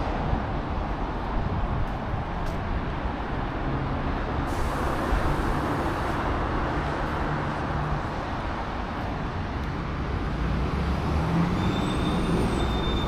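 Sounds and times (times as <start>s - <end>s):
passing vehicles rushing: 0.0s - 13.0s.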